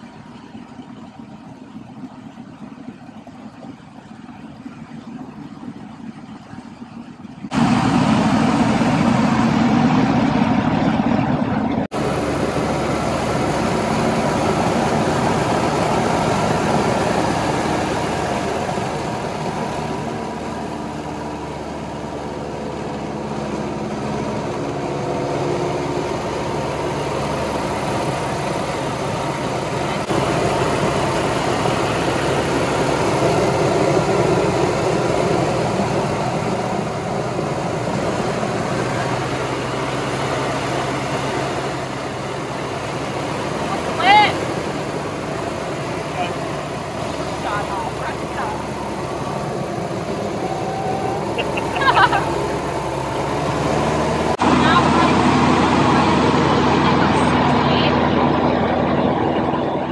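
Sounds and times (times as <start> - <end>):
small plane engine and propeller: 0.0 - 59.9.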